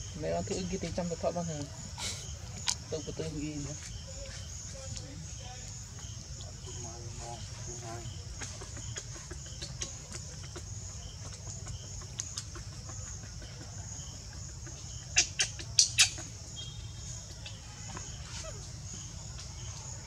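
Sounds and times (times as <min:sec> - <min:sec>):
pulsing insect chorus: 0:00.0 - 0:20.0.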